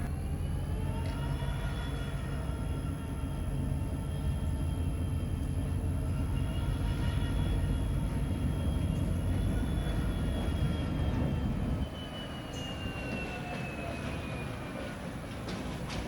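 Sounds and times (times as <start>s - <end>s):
locomotive engine rumble: 0.0s - 16.0s.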